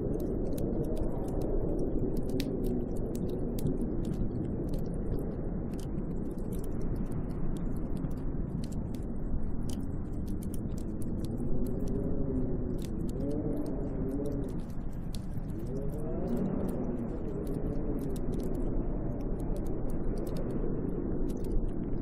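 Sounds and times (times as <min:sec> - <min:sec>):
faint scattered ticks: 0:00.0 - 0:22.0
howling storm wind: 0:00.0 - 0:22.0.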